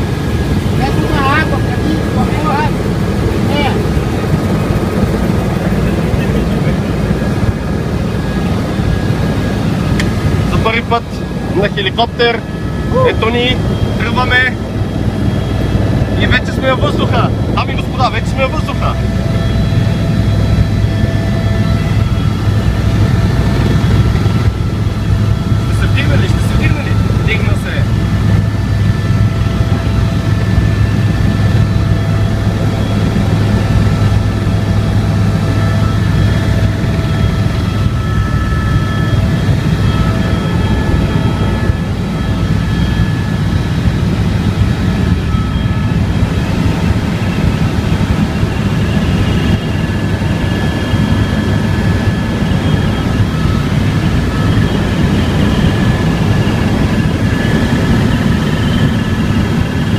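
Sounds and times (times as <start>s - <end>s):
helicopter engine and rotor noise: 0.0s - 59.9s
high-pitched whining tones: 0.0s - 59.9s.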